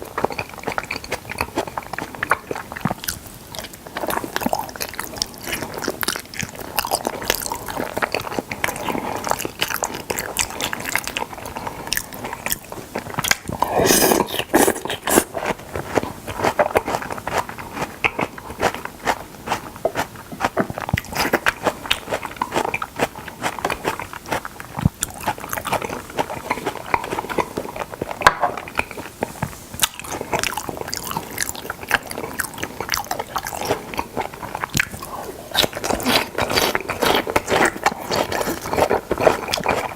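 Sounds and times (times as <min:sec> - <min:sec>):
chewing raw fish: 0:00.0 - 0:39.9.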